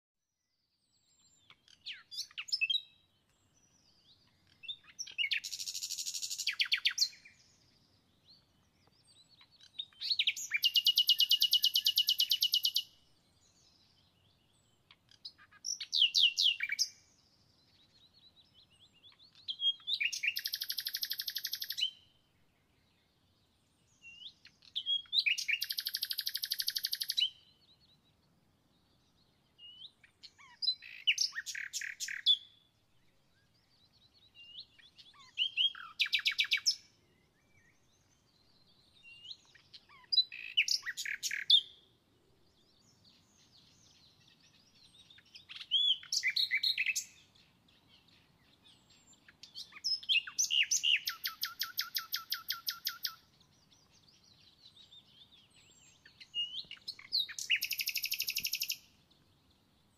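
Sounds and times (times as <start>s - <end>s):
songbird chirps and trills: 0.3s - 59.9s.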